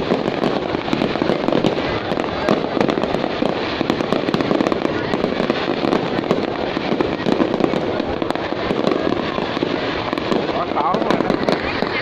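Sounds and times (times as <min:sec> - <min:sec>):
fireworks popping and crackling: 0:00.0 - 0:12.0.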